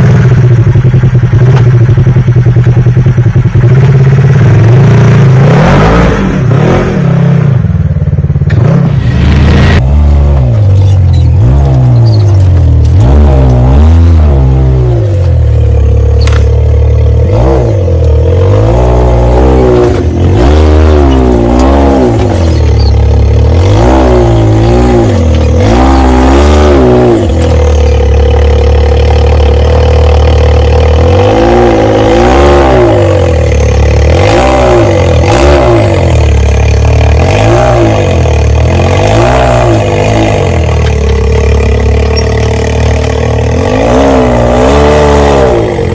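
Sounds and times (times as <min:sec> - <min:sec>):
clatter: 0:00.0 - 0:06.1, 0:07.8 - 0:45.9
vehicle engine revving: 0:00.0 - 0:45.9.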